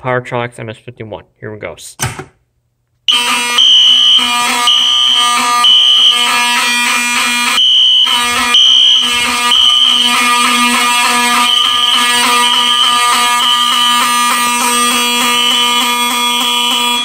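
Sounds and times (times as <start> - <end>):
fire alarm horn buzzing: 3.1 - 17.0
piercing pulsing alarm tone: 3.1 - 17.0.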